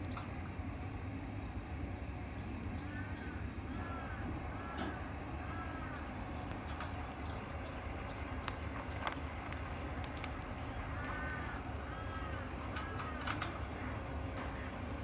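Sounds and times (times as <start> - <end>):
steady low hum: 0.0 - 15.0
bird calling softly: 2.2 - 15.0.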